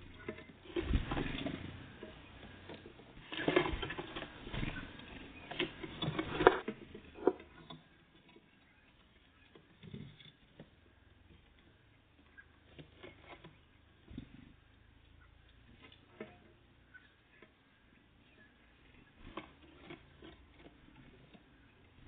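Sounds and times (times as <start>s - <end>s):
birds pecking at a feeder: 0.0s - 22.0s.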